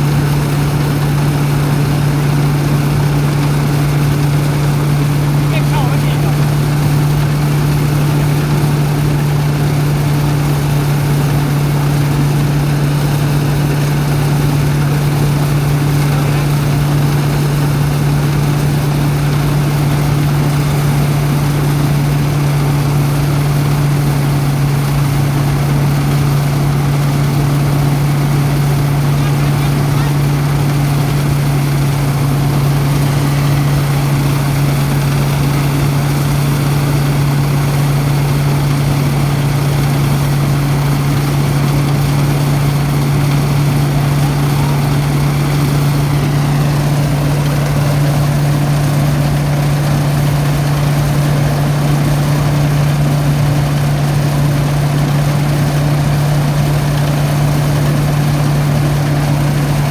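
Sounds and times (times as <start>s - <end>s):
threshing machine droning: 0.0s - 59.9s.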